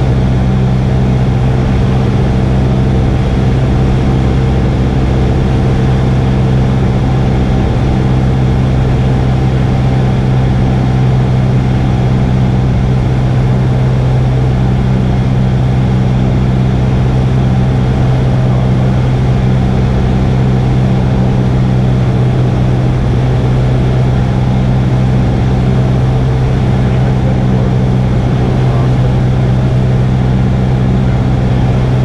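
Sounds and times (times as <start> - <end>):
light aircraft engine drone: 0.0 - 32.0.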